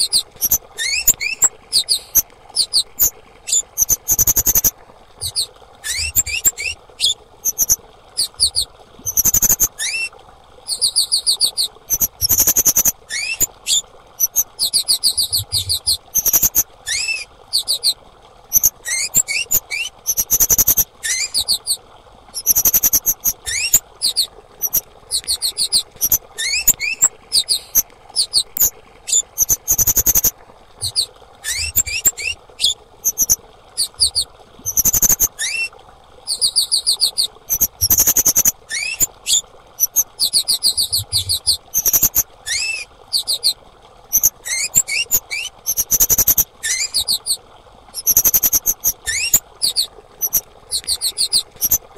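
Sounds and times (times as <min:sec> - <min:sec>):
thrush calling: 0:00.0 - 0:10.1, 0:10.7 - 0:21.8, 0:22.4 - 0:35.7, 0:36.3 - 0:47.4, 0:48.0 - 0:51.8.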